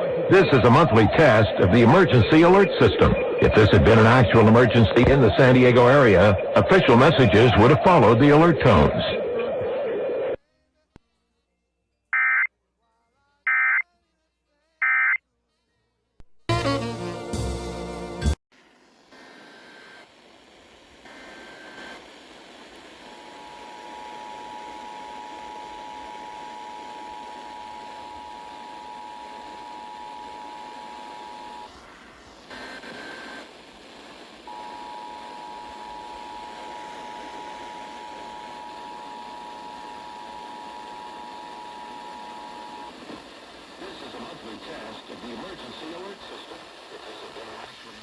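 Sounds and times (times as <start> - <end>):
radio static: 0.0 - 10.4, 19.0 - 48.0.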